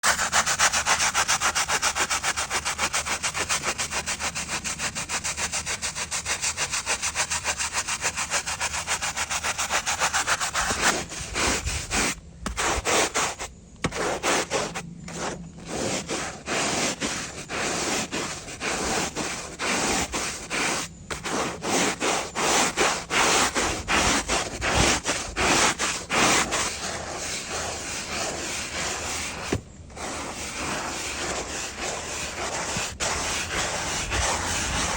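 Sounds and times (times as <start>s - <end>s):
stiff brush scrubbing tarmac: 0.0s - 34.9s.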